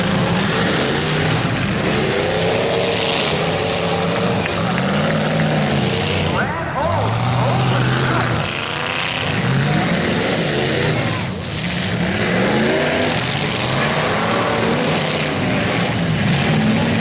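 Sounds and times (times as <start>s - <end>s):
car engines revving: 0.0s - 17.0s
loud noisy background: 0.0s - 17.0s.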